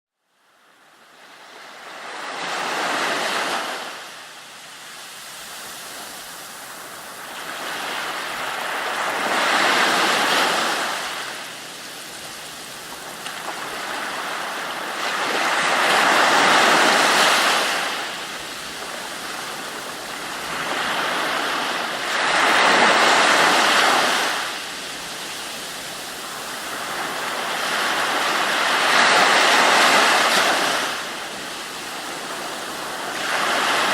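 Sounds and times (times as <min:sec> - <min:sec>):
ocean waves breaking on shore: 0:00.4 - 0:33.9.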